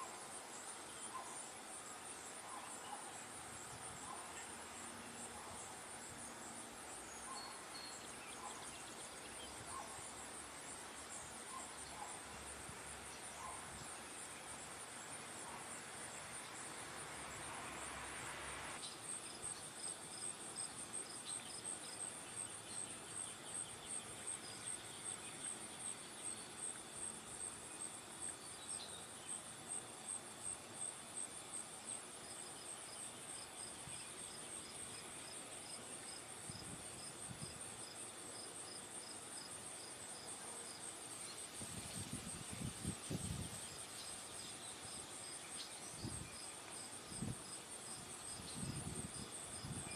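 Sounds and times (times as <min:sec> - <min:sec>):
high pulsing insect chorus: 0:00.0 - 0:49.9
insect chirps: 0:00.0 - 0:49.9.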